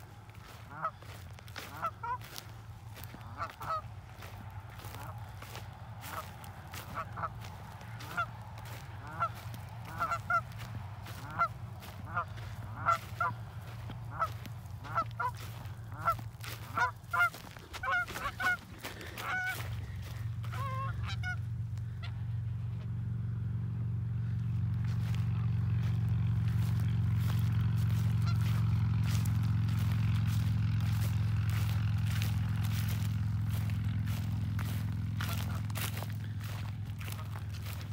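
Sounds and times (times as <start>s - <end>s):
geese honking: 0.0s - 22.8s, 23.8s - 37.9s
steady low rumble: 0.0s - 37.9s.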